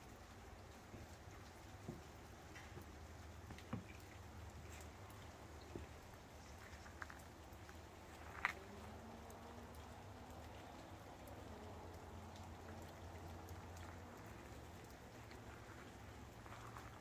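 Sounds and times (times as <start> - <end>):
faint ticks: 0.0 - 17.0.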